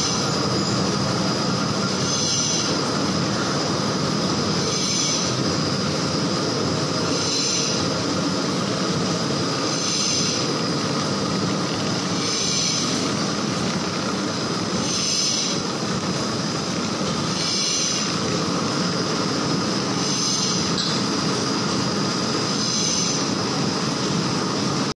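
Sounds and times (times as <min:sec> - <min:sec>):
machine running steadily: 0:00.0 - 0:24.9.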